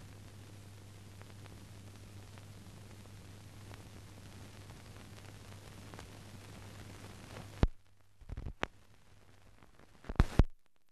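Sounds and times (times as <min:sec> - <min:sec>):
film transfer hiss: 0:00.0 - 0:10.9
faint clicks and pops: 0:00.2 - 0:10.9.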